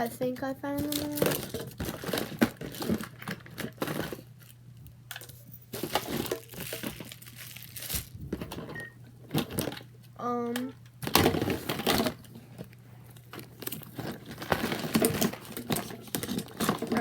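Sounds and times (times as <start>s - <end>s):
plastic toys crinkling and clicking: 0.8s - 17.0s.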